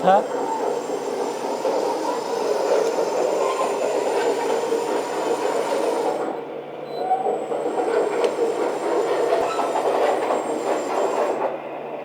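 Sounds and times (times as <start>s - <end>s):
model bulldozer motors running: 0.0s - 11.6s.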